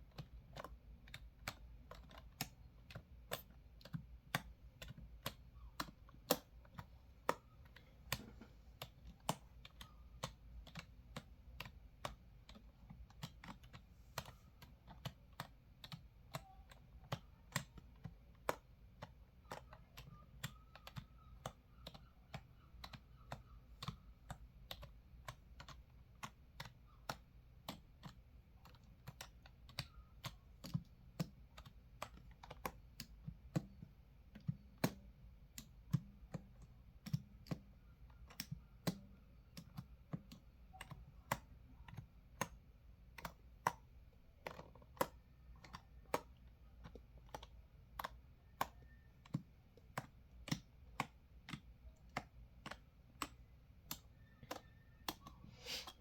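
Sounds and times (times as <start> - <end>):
typing on computer keyboard: 0.0 - 56.0.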